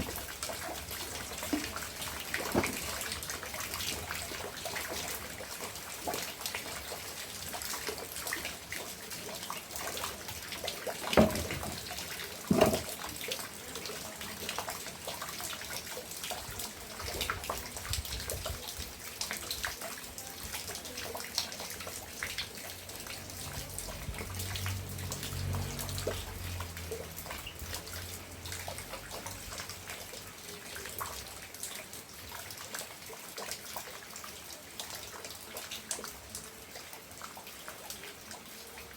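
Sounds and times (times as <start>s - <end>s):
rain falling: 0.0s - 38.9s
water dripping: 0.0s - 38.9s.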